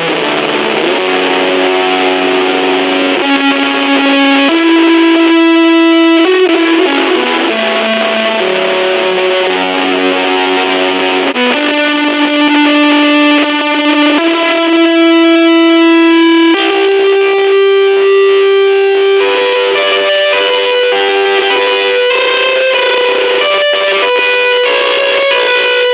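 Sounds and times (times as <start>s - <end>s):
distorted electric guitar notes: 0.0s - 25.9s.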